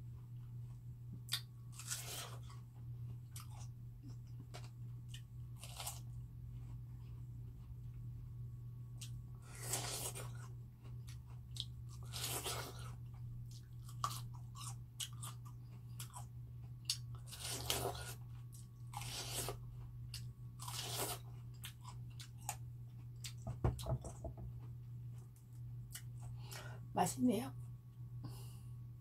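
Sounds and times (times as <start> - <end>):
steady low hum: 0.0 - 29.0
person biting and chewing watermelon: 0.2 - 8.1, 8.8 - 23.9, 25.9 - 26.6.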